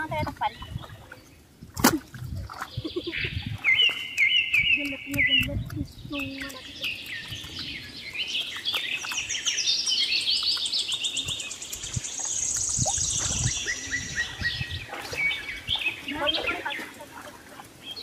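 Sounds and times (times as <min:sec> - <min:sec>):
birds chirping: 0:00.0 - 0:18.0
wading in shallow water: 0:00.0 - 0:18.0.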